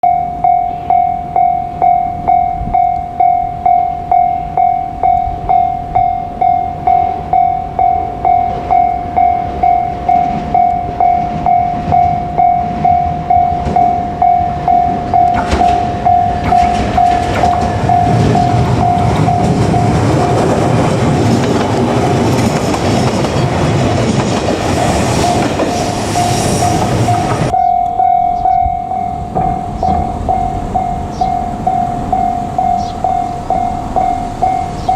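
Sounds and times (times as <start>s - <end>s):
level crossing electronic bell: 0.0s - 20.2s, 25.1s - 34.9s
electric train running: 0.4s - 34.9s.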